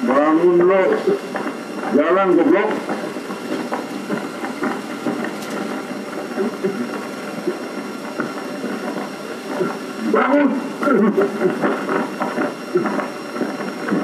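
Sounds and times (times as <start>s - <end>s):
film projector clattering: 0.0s - 14.0s.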